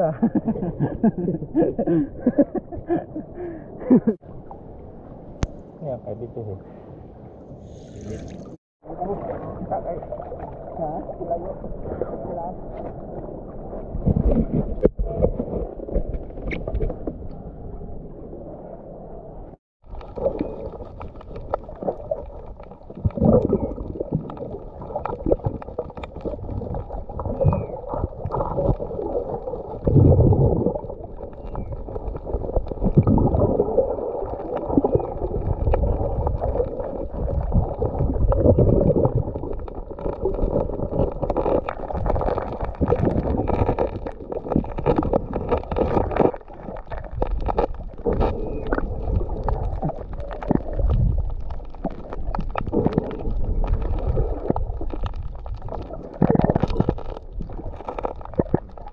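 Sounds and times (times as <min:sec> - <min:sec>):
muffled underwater water noise: 0:00.0 - 0:58.9
water gurgling and rushing: 0:07.6 - 0:58.9.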